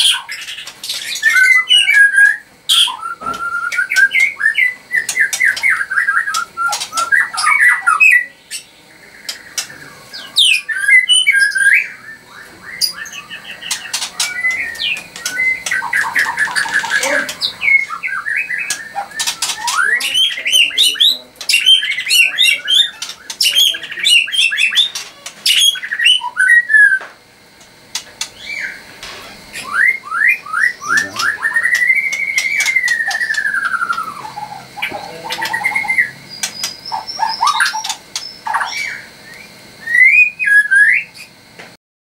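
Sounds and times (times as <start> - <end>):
bird singing: 0.0 - 41.5.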